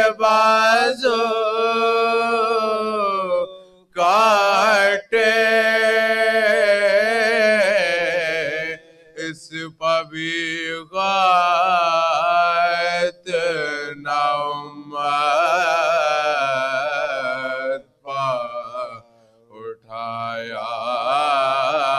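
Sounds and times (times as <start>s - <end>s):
male voices reciting elegy: 0.0s - 3.4s, 4.0s - 21.9s.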